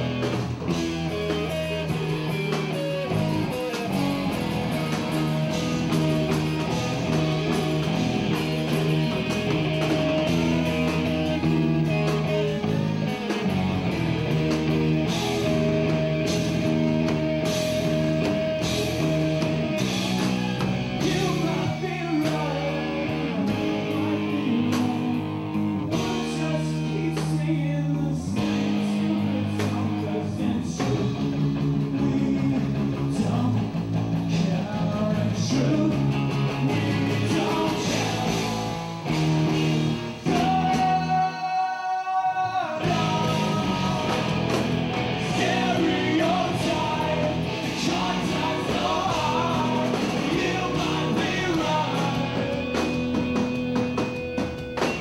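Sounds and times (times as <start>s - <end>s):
bass guitar: 0.0s - 55.0s
electric guitar: 0.0s - 55.0s
rock band playing live: 0.0s - 55.0s.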